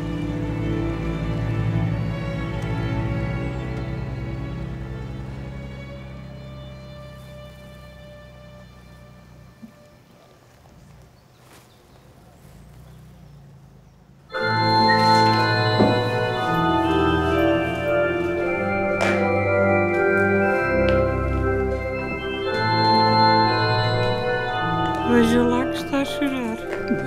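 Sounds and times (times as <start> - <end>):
organ playing sustained chords: 0.0 - 11.6, 12.3 - 27.0.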